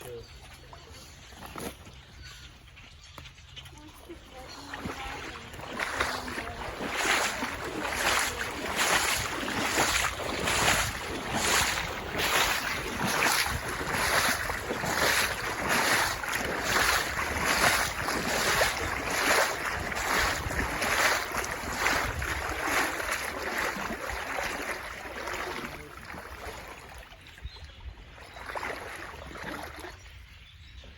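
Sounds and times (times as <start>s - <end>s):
wading through shallow water: 0.0s - 30.9s.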